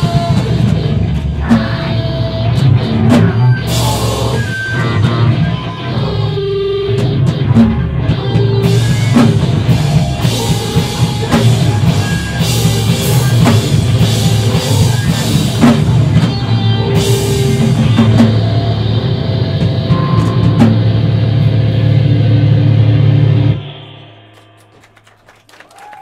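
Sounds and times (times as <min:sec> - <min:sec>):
live screamo band playing: 0:00.0 - 0:26.0.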